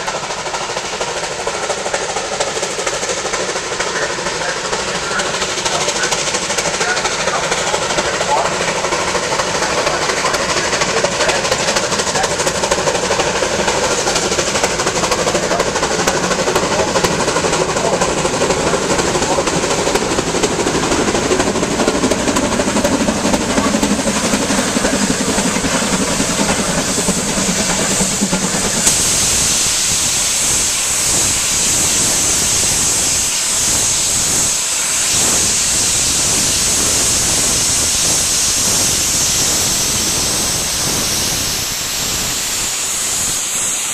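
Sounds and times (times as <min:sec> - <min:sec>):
steam hissing: 0:00.0 - 0:43.9
steam locomotive exhaust beats: 0:00.0 - 0:43.9.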